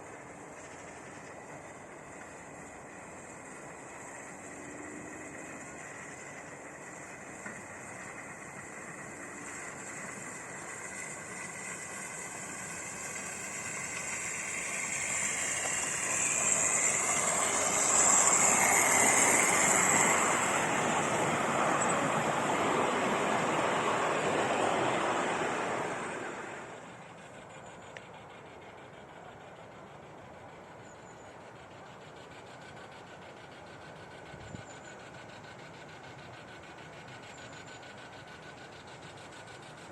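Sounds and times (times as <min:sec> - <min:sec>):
steam train passing: 0:00.0 - 0:39.9.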